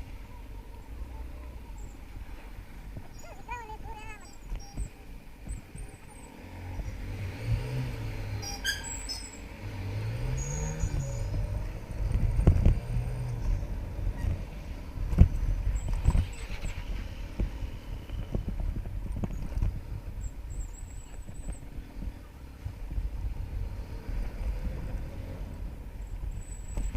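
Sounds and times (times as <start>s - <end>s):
wind and road rush: 0.0s - 26.9s.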